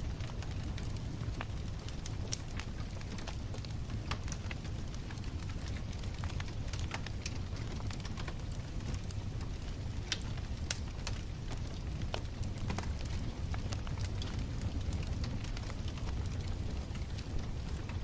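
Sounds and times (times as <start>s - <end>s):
bonfire flames rumbling: 0.0s - 18.0s
burning wood crackling and popping: 0.0s - 18.0s.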